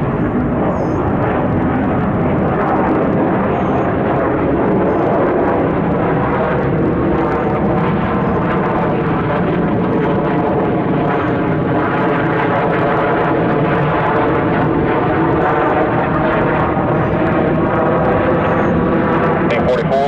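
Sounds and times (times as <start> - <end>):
jet engines at takeoff: 0.0 - 20.0.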